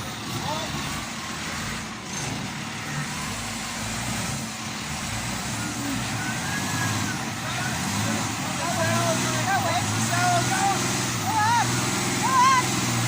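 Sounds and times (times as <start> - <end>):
trucks driving by: 0.0 - 13.0.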